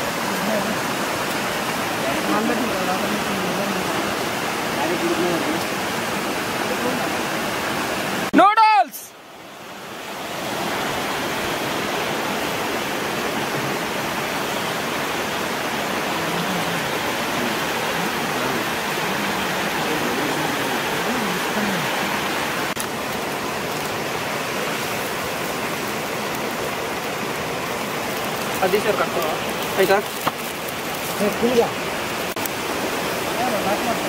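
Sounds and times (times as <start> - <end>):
stream rushing over rock: 0.0 - 34.0.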